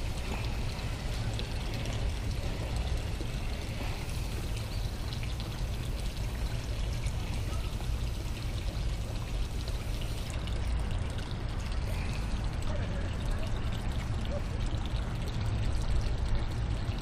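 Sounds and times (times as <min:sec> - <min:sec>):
water trickling and pouring: 0:00.0 - 0:17.0.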